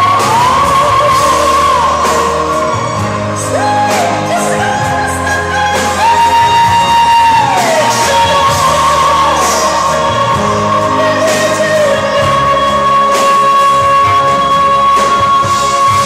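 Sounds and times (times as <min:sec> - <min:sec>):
pop backing track: 0:00.0 - 0:16.0.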